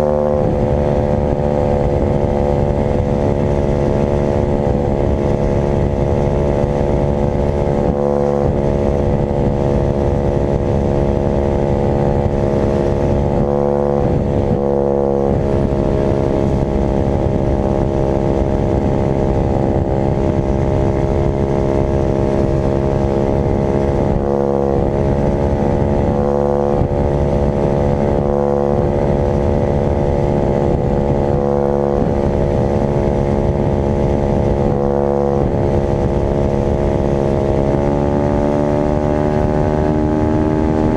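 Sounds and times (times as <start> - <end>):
dirt bike engine running hard: 0.0 - 40.9.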